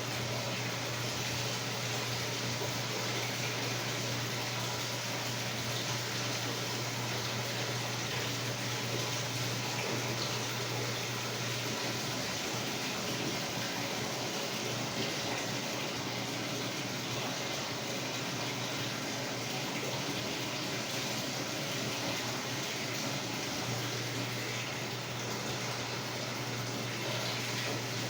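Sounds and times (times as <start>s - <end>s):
washer low hum: 0.0s - 28.0s
water running in washer tub: 0.0s - 28.0s.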